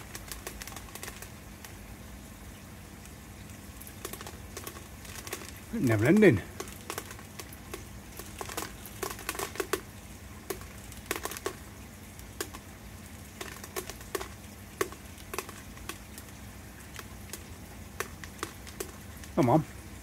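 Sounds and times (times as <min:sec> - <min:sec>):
light crinkles and clicks: 0:00.0 - 0:01.8, 0:03.0 - 0:12.6, 0:13.3 - 0:19.5.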